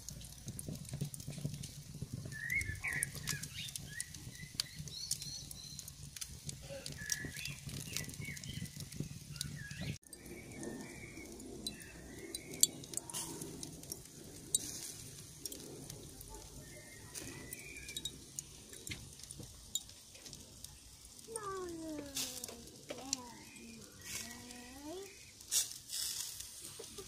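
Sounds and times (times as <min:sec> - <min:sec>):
charcoal grill popping and crackling: 0:00.0 - 0:27.0
small birds chirping: 0:00.3 - 0:25.6.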